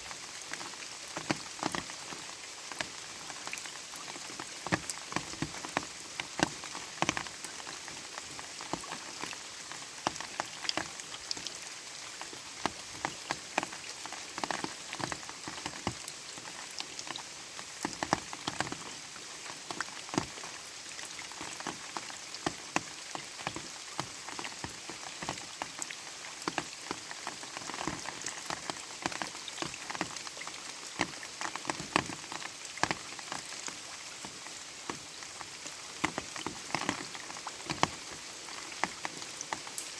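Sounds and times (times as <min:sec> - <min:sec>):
light rain hissing: 0:00.0 - 0:39.9
raindrops pattering: 0:00.0 - 0:39.9.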